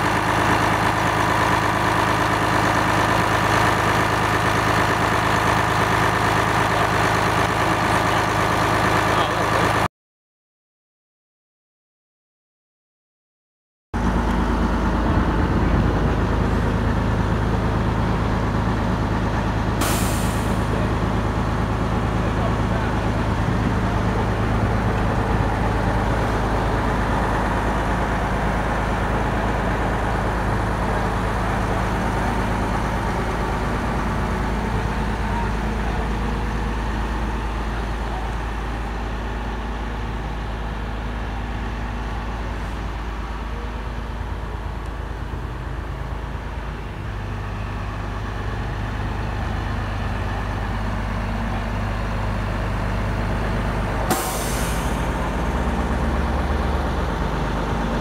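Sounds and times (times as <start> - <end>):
diesel engine idling: 0.0 - 9.9, 14.0 - 58.0.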